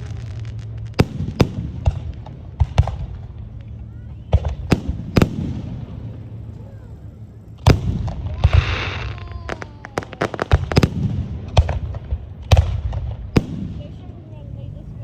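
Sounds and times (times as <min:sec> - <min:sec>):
fireworks bangs: 0:00.0 - 0:06.7, 0:07.6 - 0:14.7
fireworks hissing crackle: 0:00.0 - 0:15.0.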